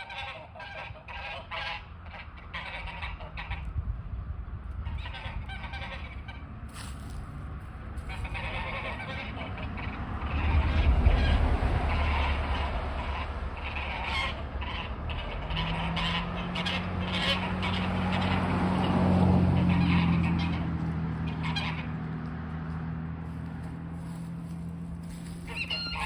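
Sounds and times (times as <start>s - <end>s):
geese honking: 0.0s - 3.7s, 4.8s - 7.3s, 7.9s - 22.0s, 23.4s - 26.0s.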